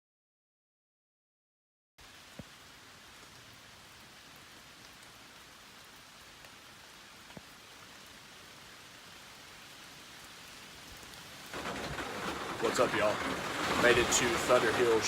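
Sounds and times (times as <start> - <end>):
steady rain hiss: 2.0 - 15.0.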